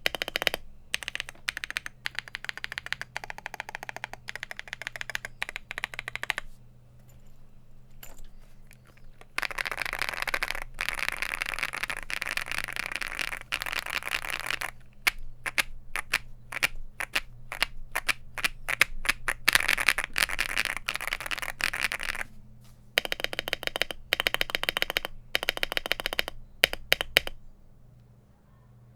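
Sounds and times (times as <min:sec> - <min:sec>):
mechanical keyboard typing: 0:00.0 - 0:06.6, 0:08.0 - 0:22.3, 0:23.0 - 0:27.4.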